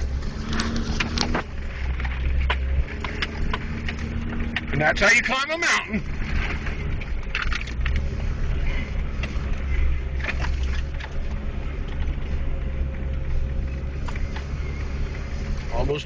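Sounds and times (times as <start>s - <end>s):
off-road vehicle engine under load: 0.0s - 16.0s.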